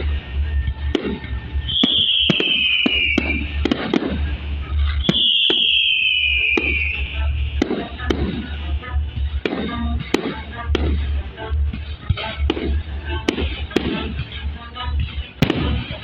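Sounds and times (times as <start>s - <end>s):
fireworks bangs with echoing rumble: 0.0s - 16.0s
fireworks whistles falling in pitch: 0.0s - 16.0s.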